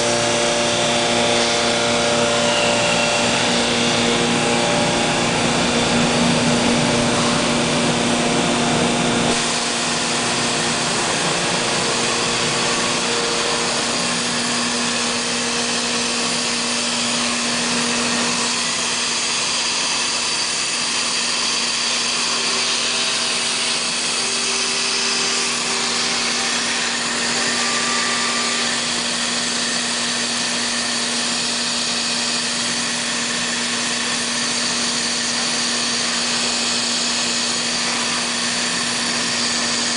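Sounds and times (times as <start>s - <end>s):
cnc machine droning: 0.0s - 39.9s.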